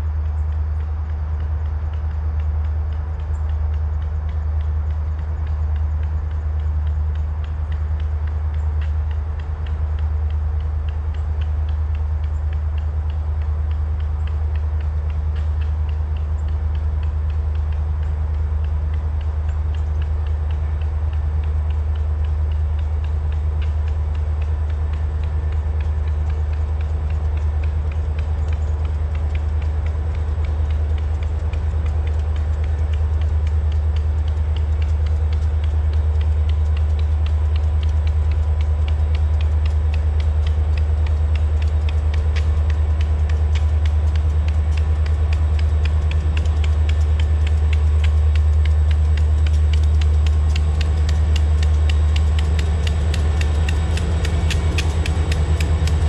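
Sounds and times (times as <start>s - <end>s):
faint steady whine: 0.0s - 56.0s
freight train rumbling: 0.0s - 56.0s
fast even ticking: 1.9s - 56.0s.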